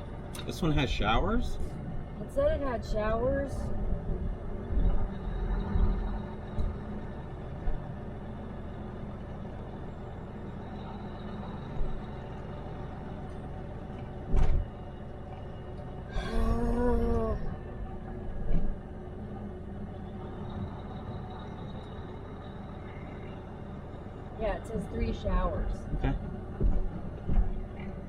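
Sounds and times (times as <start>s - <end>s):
engine and road hum in cab: 0.0s - 28.0s.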